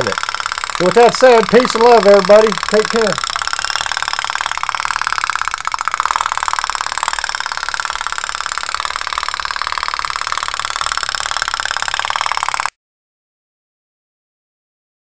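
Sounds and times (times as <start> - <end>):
toy boat popping rattle: 0.0 - 12.8.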